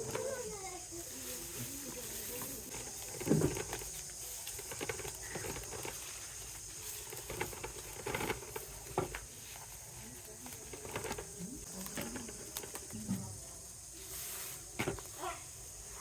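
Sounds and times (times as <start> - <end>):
dry plant fibres rustling: 0.0 - 16.0.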